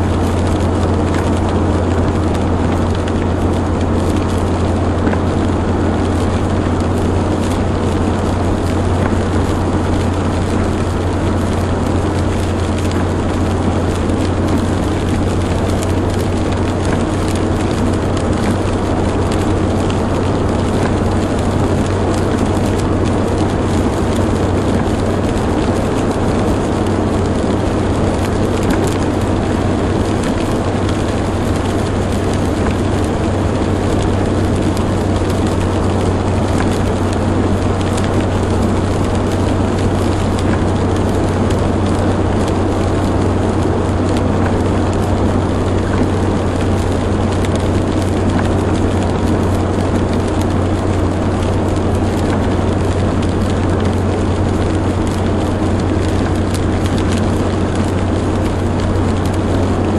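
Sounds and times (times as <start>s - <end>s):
car engine drone: 0.0s - 59.9s
tyres hissing on wet road: 0.0s - 59.9s.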